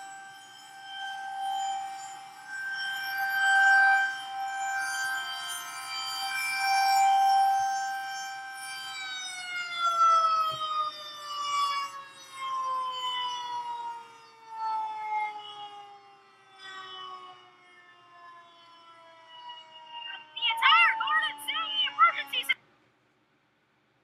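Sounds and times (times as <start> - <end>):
tornado siren winding down: 0.0 - 22.6.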